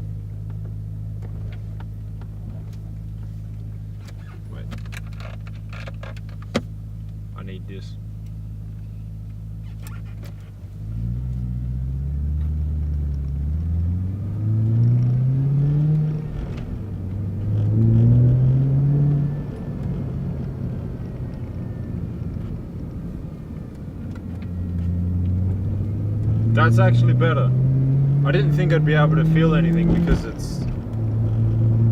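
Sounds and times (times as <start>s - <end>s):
car engine idling and pulling away: 0.0s - 31.9s.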